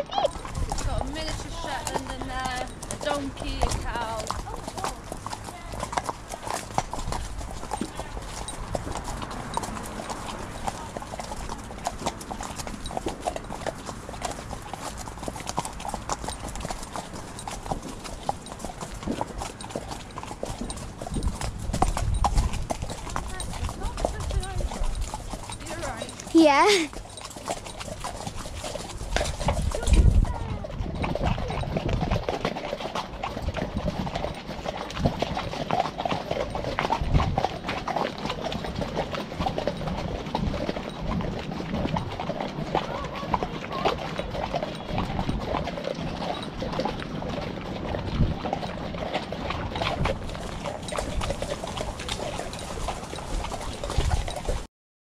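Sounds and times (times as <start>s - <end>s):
horse hooves clip-clopping on tarmac: 0.0s - 54.7s.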